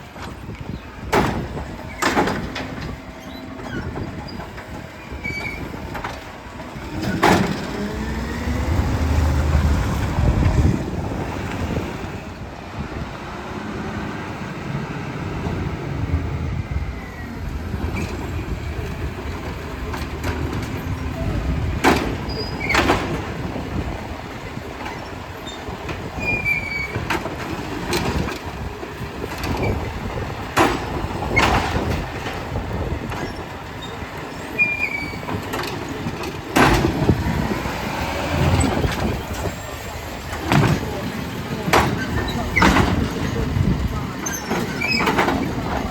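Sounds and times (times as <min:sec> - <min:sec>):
truck engine rumbling: 0:00.0 - 0:45.9.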